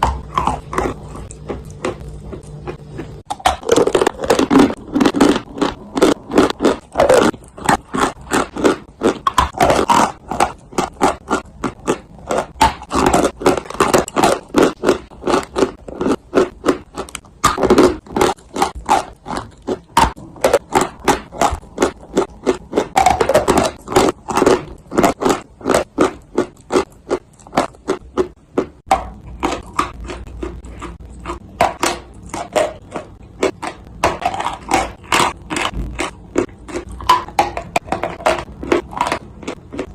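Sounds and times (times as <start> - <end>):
dry clay being chewed: 0.0 - 39.9.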